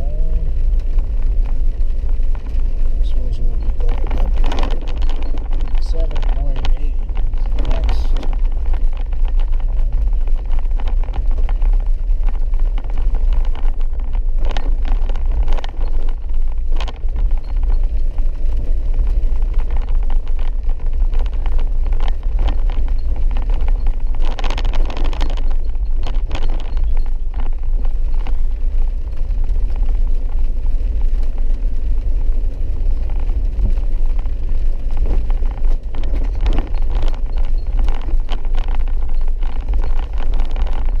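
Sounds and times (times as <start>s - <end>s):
vehicle rumbling on dirt road: 0.0s - 41.0s
knocks and rattles: 0.9s - 30.4s, 32.4s - 41.0s.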